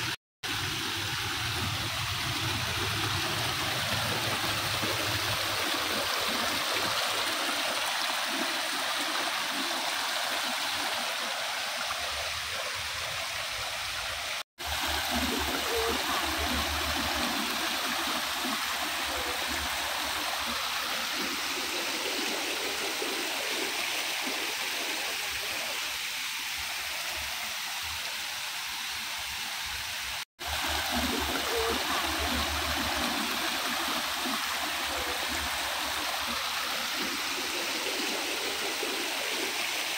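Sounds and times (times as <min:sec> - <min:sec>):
stream splashing and gurgling: 0:00.0 - 0:39.9.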